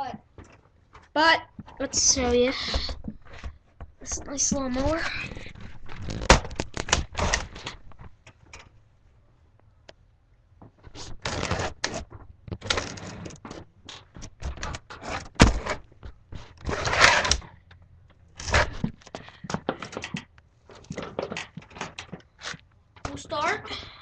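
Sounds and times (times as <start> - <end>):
rustling and clattering handling: 0.3 - 8.8, 10.6 - 23.4.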